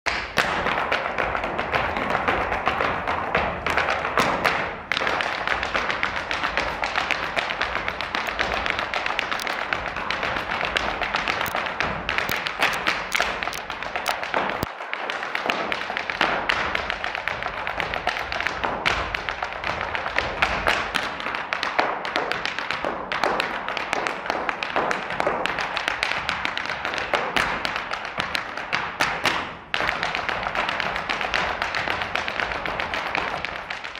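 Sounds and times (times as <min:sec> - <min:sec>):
hard shoes dancing on stage floor: 0:00.1 - 0:33.9.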